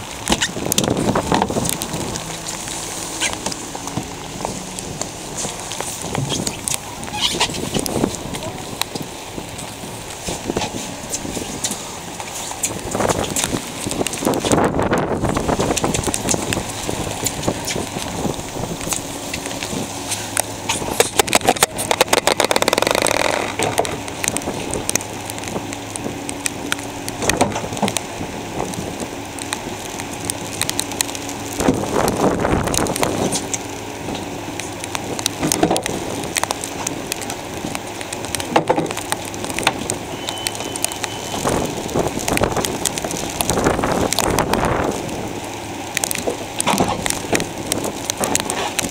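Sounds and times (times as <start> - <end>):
dense crackle: 0.0 - 48.9
wind buffeting microphone: 0.0 - 48.9.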